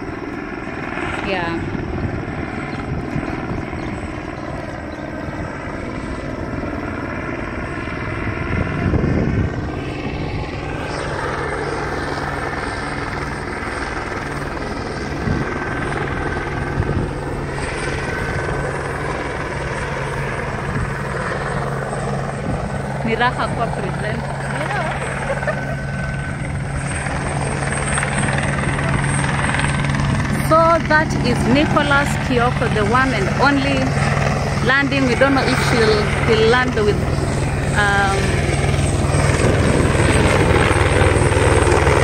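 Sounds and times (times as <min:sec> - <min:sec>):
helicopter rotor and engine: 0:00.0 - 0:42.0.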